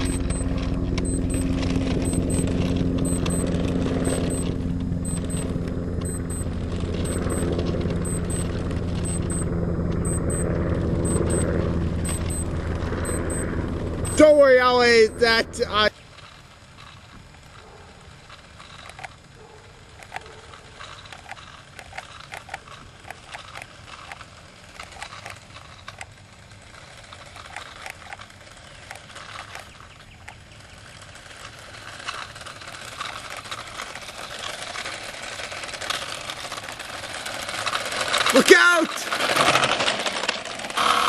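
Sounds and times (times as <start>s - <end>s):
toy car whirring: 0.0s - 10.4s, 11.0s - 41.0s.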